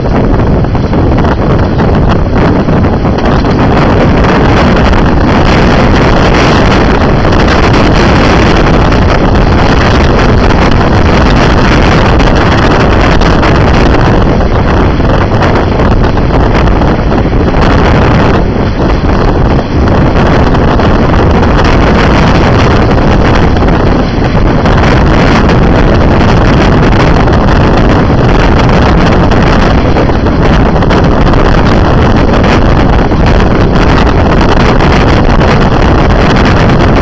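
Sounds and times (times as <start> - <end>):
tram running on track: 0.0 - 37.0
wind buffeting microphone: 0.0 - 37.0.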